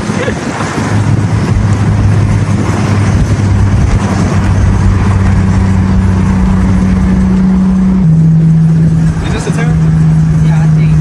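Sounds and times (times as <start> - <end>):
car exhaust droning: 0.0 - 11.0
road and wind noise: 0.0 - 11.0.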